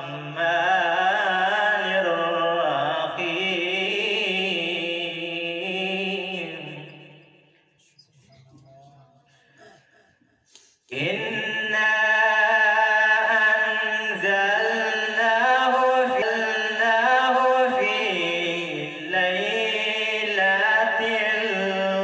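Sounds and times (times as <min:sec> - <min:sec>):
man chanting melodically: 0:00.0 - 0:07.1, 0:10.9 - 0:22.0.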